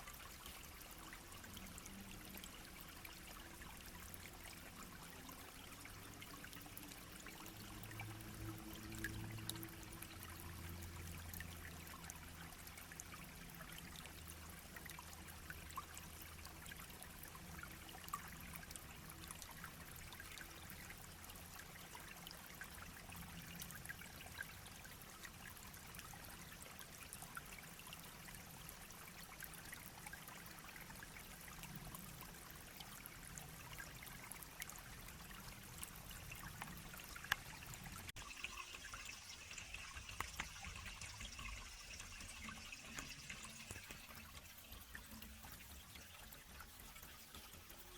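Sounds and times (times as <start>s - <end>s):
stream babbling over stones: 0.0s - 47.9s.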